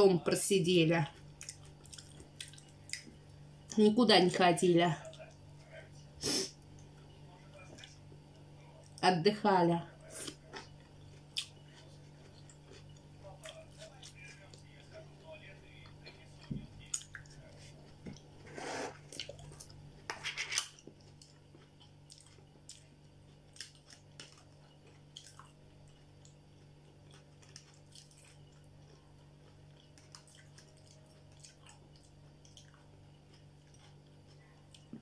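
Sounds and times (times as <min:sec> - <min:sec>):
person chewing food: 0:01.1 - 0:03.8, 0:05.0 - 0:09.0, 0:10.0 - 0:35.0.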